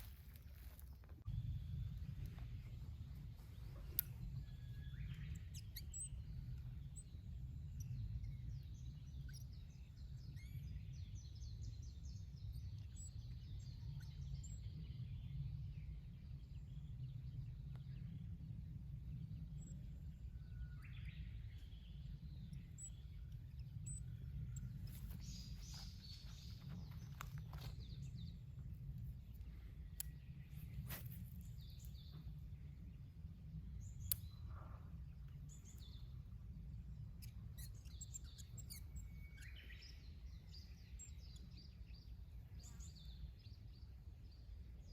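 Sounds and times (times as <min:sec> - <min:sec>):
small birds chirping: 0:00.0 - 0:44.9
steady low rumble: 0:00.0 - 0:44.9.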